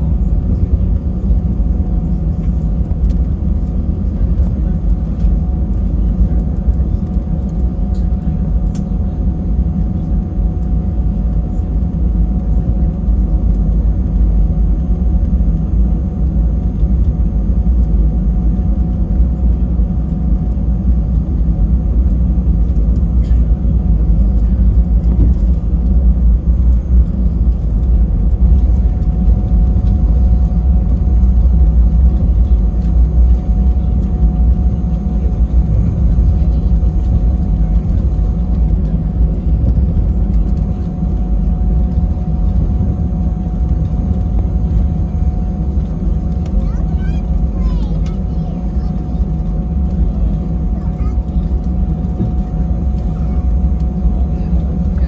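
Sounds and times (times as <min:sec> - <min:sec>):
aircraft cabin engine rumble: 0:00.0 - 0:55.0
constant hum: 0:00.0 - 0:55.0.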